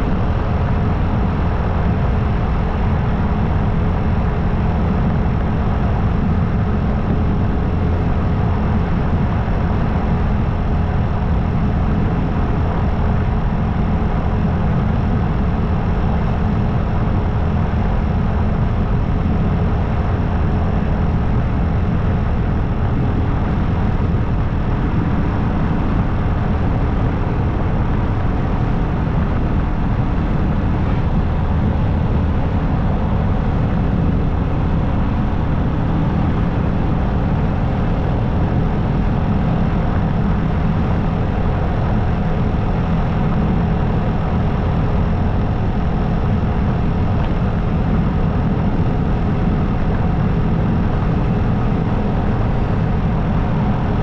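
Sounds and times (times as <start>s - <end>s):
motorcycle riding at speed: 0.0s - 54.0s.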